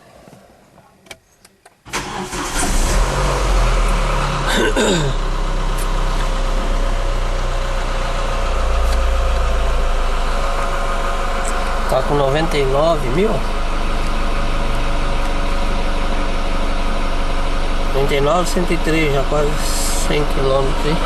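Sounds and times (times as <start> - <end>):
car engine cranking and starting: 1.8 - 21.0
engine idling: 1.9 - 21.0.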